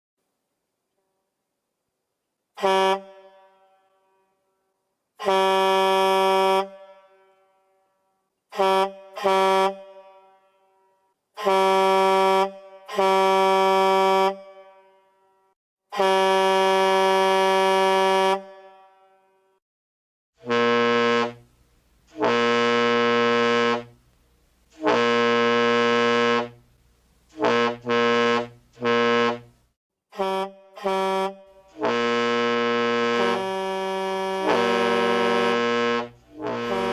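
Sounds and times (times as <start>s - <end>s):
deeper horn blasts: 2.6s - 4.4s, 5.2s - 7.8s, 8.5s - 19.4s, 20.4s - 21.5s, 22.1s - 24.0s, 24.8s - 26.6s, 27.4s - 36.9s
truck horn blasts: 2.6s - 4.5s, 5.2s - 19.6s, 20.4s - 21.5s, 22.1s - 24.0s, 24.8s - 26.6s, 27.3s - 36.9s.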